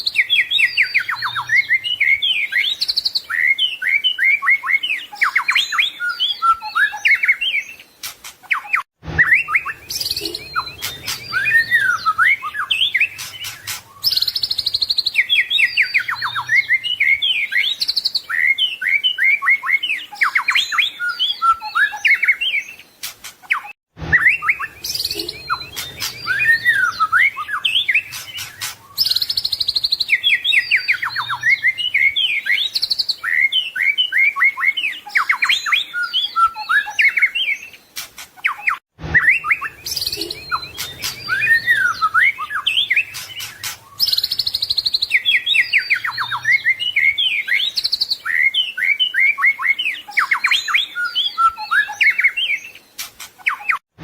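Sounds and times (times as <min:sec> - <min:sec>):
songbird singing whistles and trills: 0:00.0 - 0:53.8.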